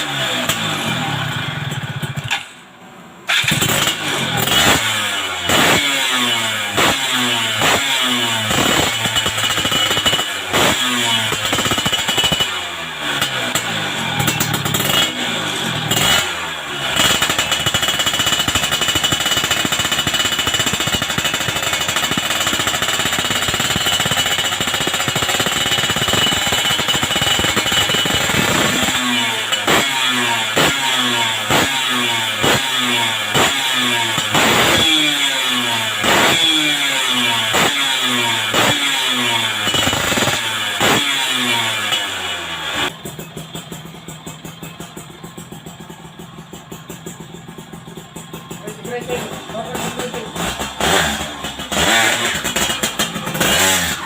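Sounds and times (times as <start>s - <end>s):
two-stroke motorcycle engine revving: 0.0s - 2.6s, 3.2s - 54.0s.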